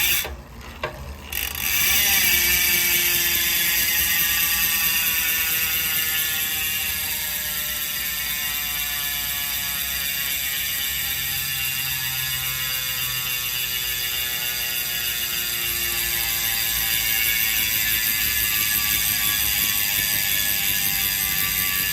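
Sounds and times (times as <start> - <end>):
bicycle freehub ratchet buzz: 0.0 - 21.9.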